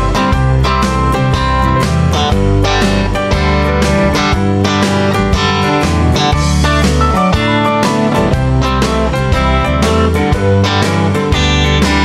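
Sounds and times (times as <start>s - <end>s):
guitar-led music with steady beat: 0.0s - 12.0s.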